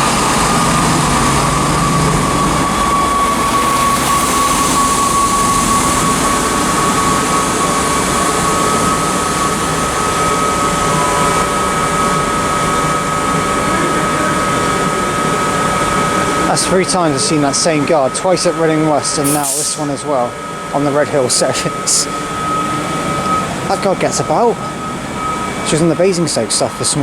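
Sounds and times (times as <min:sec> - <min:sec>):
diesel train engine rumble: 0:00.0 - 0:27.0
high engine whine: 0:00.0 - 0:27.0.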